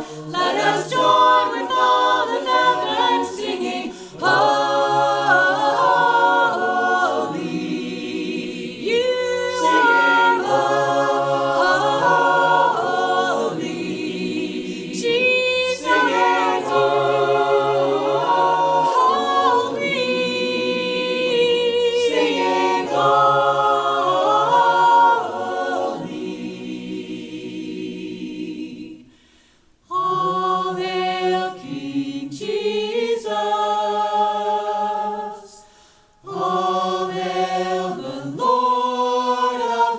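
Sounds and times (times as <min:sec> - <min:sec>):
choir singing a hymn: 0:00.0 - 0:29.1, 0:29.9 - 0:39.9.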